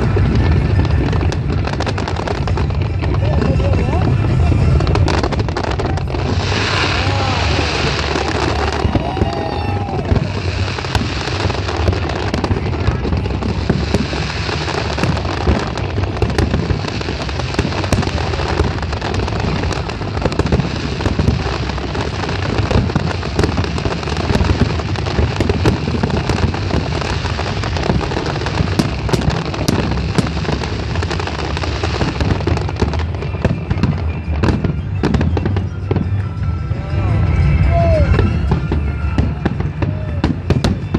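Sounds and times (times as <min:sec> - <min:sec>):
deep booms of fireworks: 0:00.0 - 0:40.9
fireworks crackling and popping: 0:00.0 - 0:40.9.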